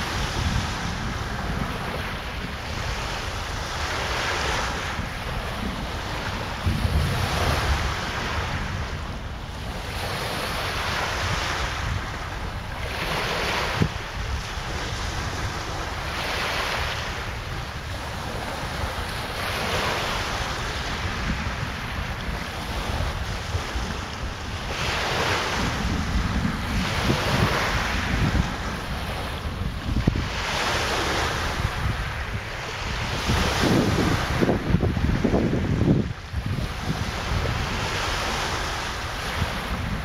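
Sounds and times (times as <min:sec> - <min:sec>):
waves washing onto shore: 0:00.0 - 0:40.0
wind buffeting microphone: 0:00.0 - 0:40.0.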